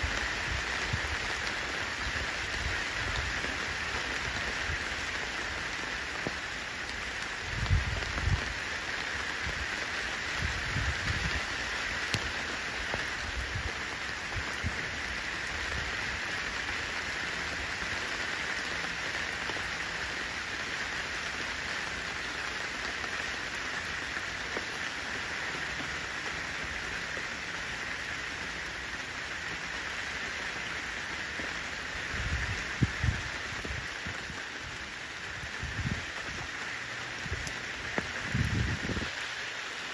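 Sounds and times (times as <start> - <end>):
rain on wet pavement: 0.0 - 39.9.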